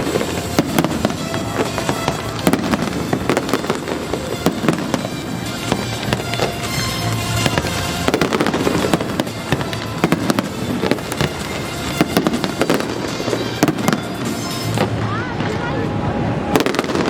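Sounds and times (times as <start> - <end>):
fireworks bangs and crackling: 0.0 - 17.0
music playing: 0.0 - 17.0.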